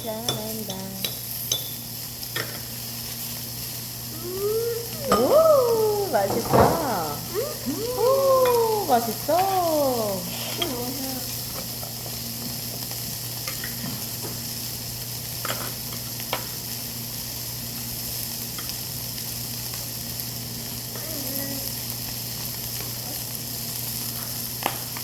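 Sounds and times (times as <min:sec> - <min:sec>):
meat sizzling on a grill: 0:00.0 - 0:25.0.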